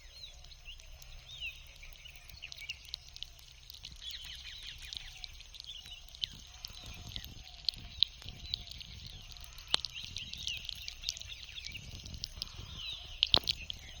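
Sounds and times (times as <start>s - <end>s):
birds chirping and twittering: 0.0s - 14.0s
sharp clicks: 0.3s - 14.0s.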